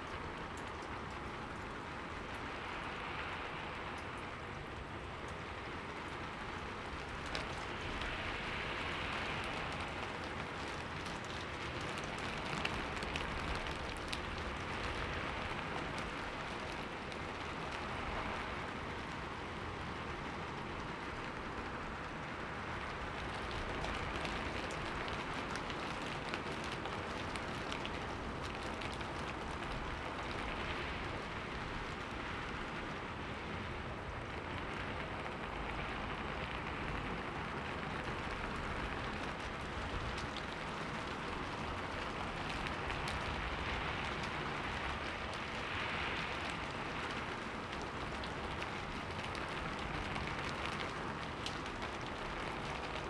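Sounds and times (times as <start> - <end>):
rain pattering on a window: 0.0 - 53.0.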